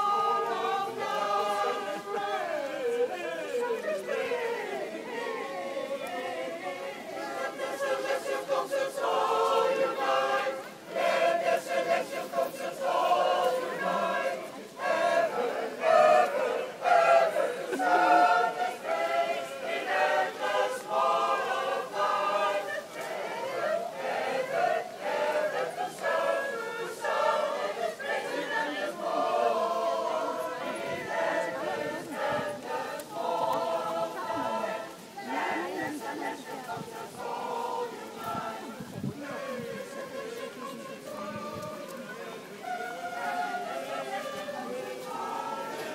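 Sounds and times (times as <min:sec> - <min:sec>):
mixed choir singing a cappella: 0:00.0 - 0:45.9.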